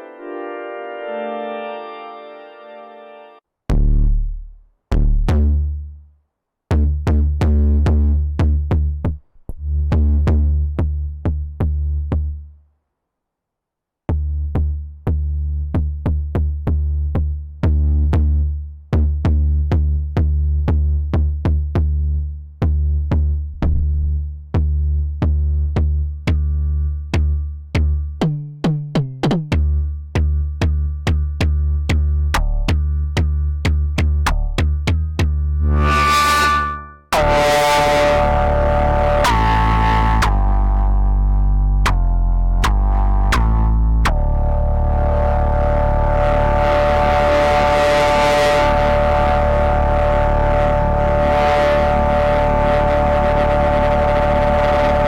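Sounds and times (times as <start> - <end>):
synthesizer playing sequenced bass notes: 0.0 - 5.9, 6.7 - 12.4, 14.1 - 55.0.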